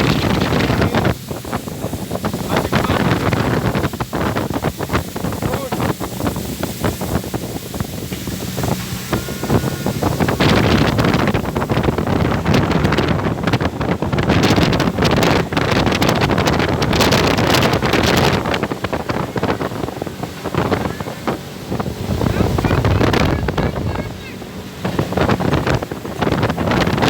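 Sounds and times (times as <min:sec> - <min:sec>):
motorboat running: 0:00.0 - 0:27.0
water rushing: 0:00.0 - 0:27.0
wind buffeting microphone: 0:00.0 - 0:27.0.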